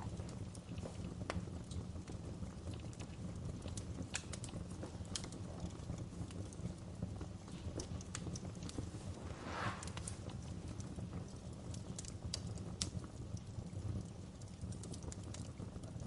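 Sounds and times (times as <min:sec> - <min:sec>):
burning logs popping: 0:00.0 - 0:16.0
wood fire crackling: 0:00.0 - 0:16.0.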